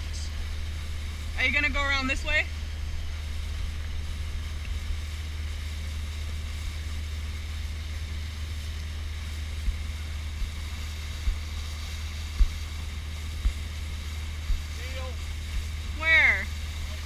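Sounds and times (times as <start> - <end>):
motorboat engine rumble: 0.0 - 17.0
wind hiss on microphone: 0.0 - 17.0.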